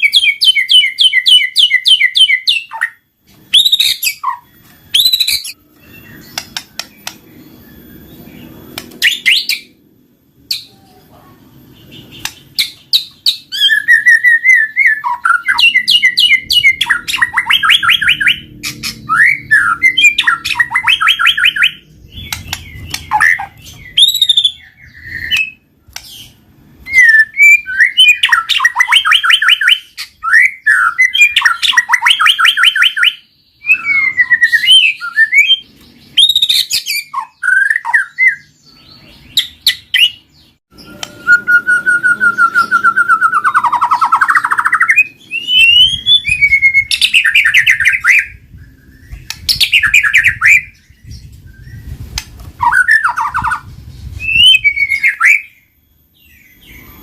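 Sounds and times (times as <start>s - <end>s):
bird singing whistles and trills: 0.0s - 9.8s, 10.4s - 57.0s.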